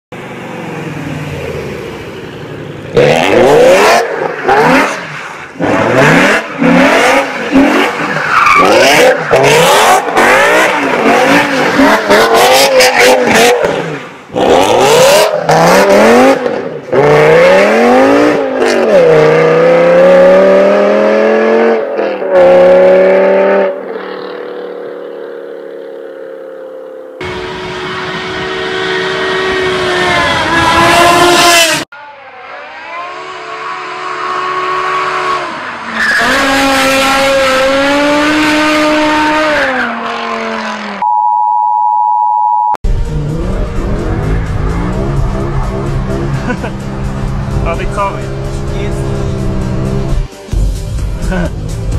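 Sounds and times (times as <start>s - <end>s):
car engine revving: 0.2s - 26.6s, 27.2s - 41.0s, 42.8s - 51.9s.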